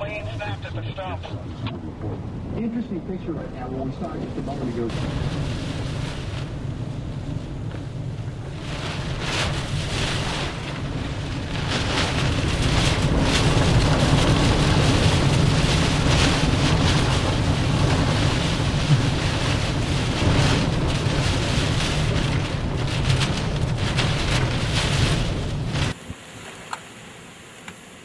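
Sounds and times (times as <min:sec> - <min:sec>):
wind buffeting a vehicle: 0:00.0 - 0:26.0
rain hissing on windshield: 0:02.2 - 0:28.0.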